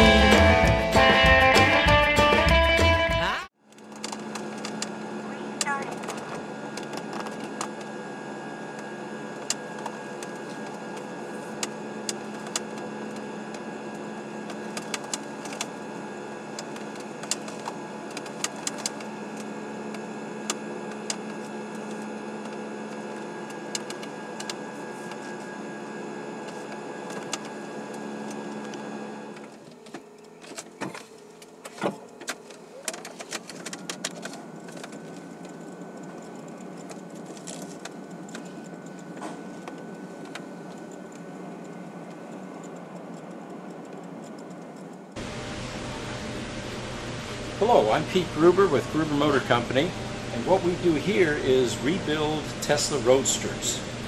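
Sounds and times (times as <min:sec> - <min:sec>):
mechanical hum in car cabin: 0:03.2 - 0:54.0.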